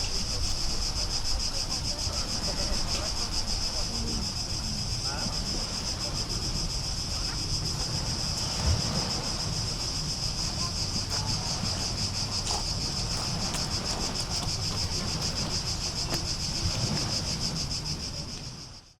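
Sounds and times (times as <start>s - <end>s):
low rumble of wind or surf: 0.0s - 19.0s.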